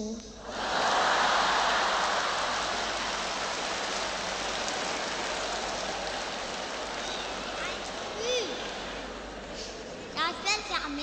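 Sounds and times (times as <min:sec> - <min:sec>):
concert audience applause: 0:00.5 - 0:10.0.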